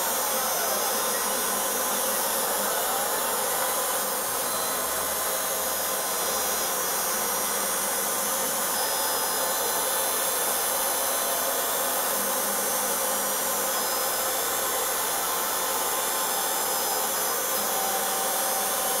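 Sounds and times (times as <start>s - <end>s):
spindle motor whirring: 0.0s - 19.0s.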